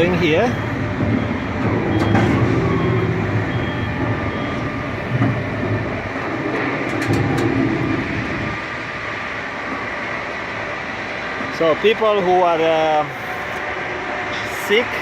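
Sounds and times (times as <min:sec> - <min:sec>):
crane machinery rumble: 0:00.0 - 0:15.0
faint steady whines: 0:00.0 - 0:15.0.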